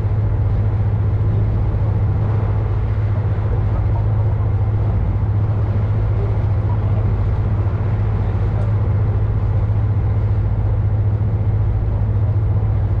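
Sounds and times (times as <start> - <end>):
ship engine humming: 0.0 - 13.0
wash of noise: 0.0 - 13.0.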